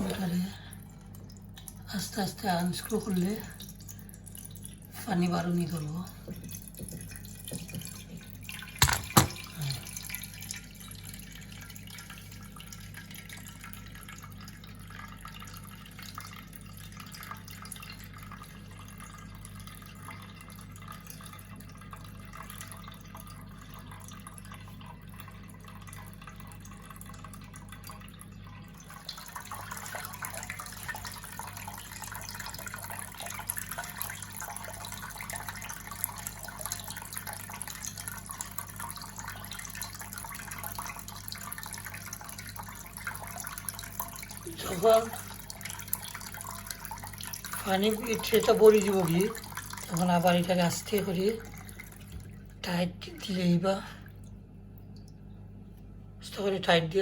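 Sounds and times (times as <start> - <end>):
water trickling into a tray: 0.0 - 57.0.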